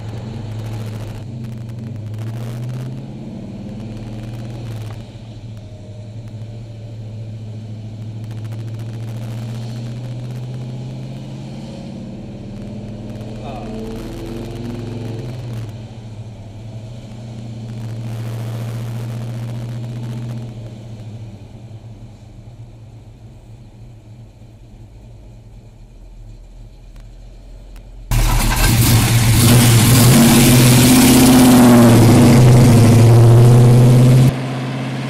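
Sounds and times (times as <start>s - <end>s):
car accelerating away: 0.0s - 21.4s, 28.1s - 35.0s
car engine running inside cabin: 0.0s - 35.0s.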